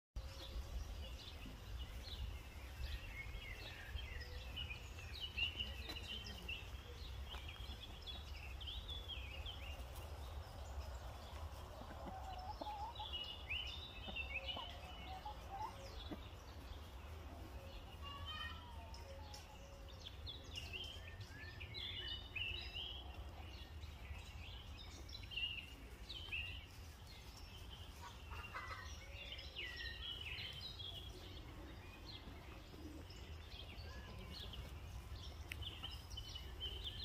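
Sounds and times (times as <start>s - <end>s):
small birds chirping: 0.2s - 37.0s.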